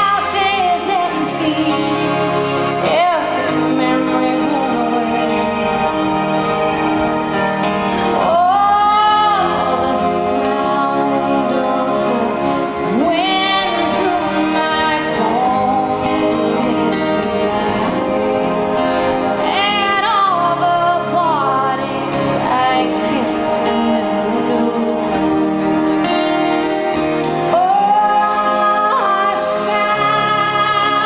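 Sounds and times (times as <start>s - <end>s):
woman singing a slow ballad: 0.0s - 5.8s, 8.2s - 25.6s, 27.5s - 31.0s
acoustic guitar: 0.0s - 31.0s.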